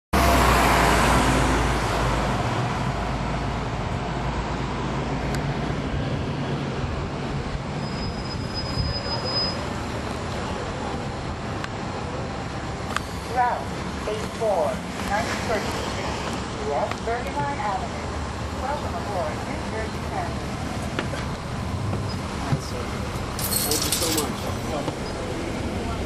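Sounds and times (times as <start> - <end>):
bus diesel engine running: 0.2 - 26.0.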